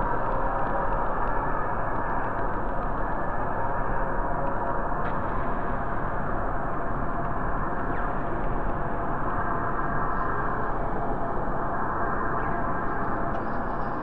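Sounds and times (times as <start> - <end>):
dark ambient noise drone: 0.0 - 14.0.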